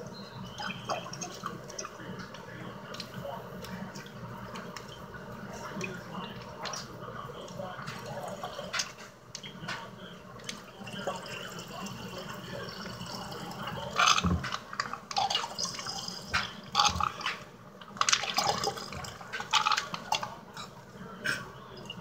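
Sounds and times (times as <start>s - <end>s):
juice dripping into liquid: 0.0s - 22.0s.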